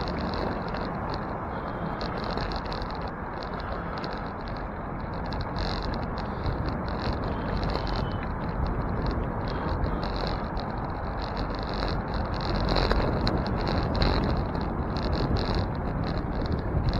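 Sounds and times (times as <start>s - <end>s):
bicycle tyre rumble on road: 0.0s - 16.9s.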